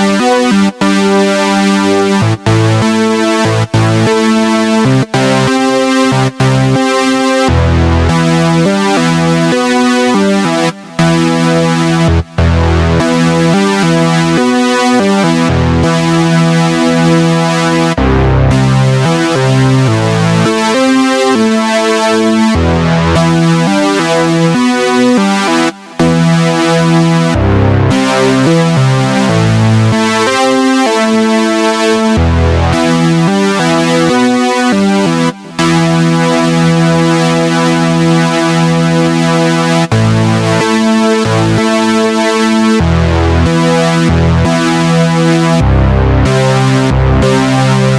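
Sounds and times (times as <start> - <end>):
synthesizer chords: 0.0 - 47.9.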